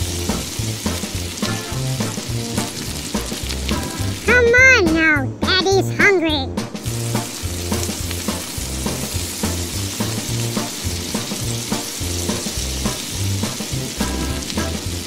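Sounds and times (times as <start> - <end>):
background music bass line: 0.0 - 15.0
sizzling hiss: 0.0 - 15.0.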